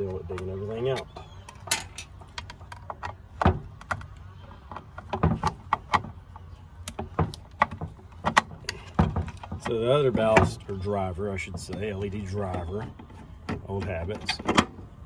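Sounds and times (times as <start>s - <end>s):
hand tools clicking and knocking: 0.0s - 14.8s.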